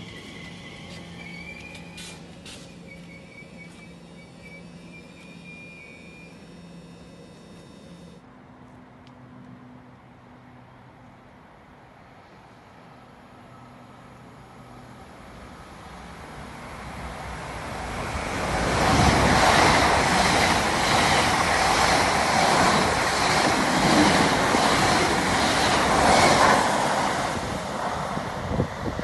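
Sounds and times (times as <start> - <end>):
train passing at speed: 0.0 - 5.8, 8.3 - 29.0.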